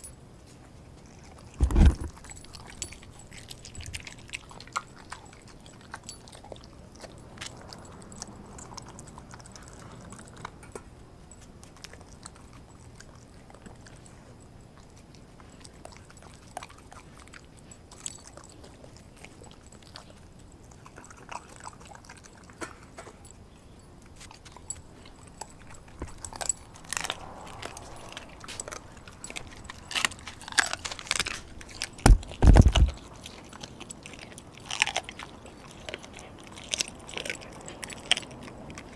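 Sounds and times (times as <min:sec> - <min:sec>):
collar tag jingling: 0:00.0 - 0:38.9
dog chewing meat: 0:00.0 - 0:38.9.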